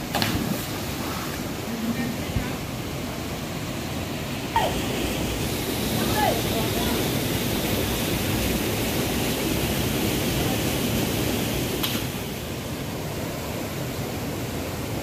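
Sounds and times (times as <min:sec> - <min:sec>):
stream and waterfall rushing: 0:00.0 - 0:15.0.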